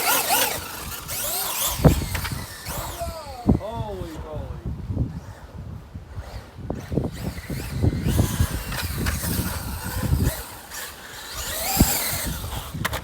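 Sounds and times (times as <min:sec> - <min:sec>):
electric motor revving: 0:00.0 - 0:04.3, 0:05.0 - 0:13.0.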